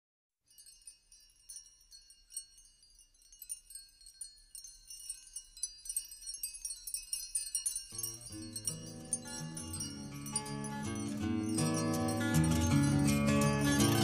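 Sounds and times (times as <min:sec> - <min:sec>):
wind chimes tinkling: 0:00.4 - 0:14.0.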